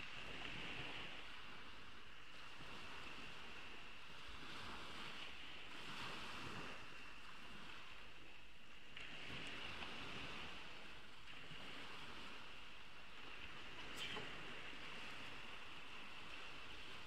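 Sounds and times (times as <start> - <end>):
sea waves washing onto beach: 0.0 - 17.0.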